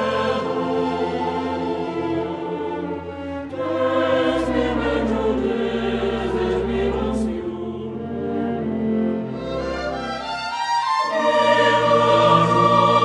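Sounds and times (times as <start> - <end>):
choir singing sustained notes: 0.0 - 13.0.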